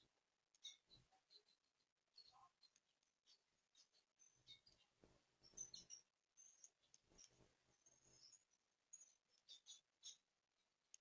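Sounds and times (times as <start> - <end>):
high-pitched bird chirps: 0.6 - 10.3.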